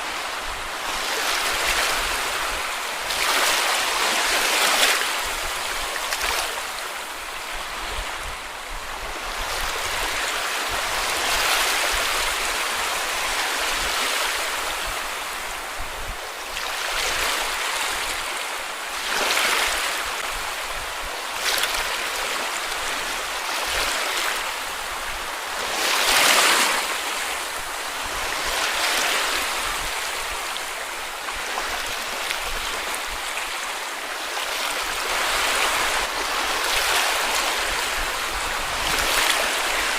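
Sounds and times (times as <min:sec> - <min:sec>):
small sea waves washing onto beach: 0:00.0 - 0:39.9.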